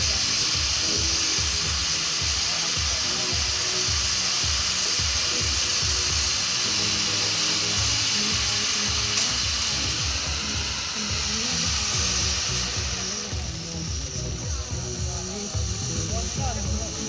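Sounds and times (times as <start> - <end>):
firework fountain hissing: 0.0 - 17.0
low music: 0.0 - 17.0.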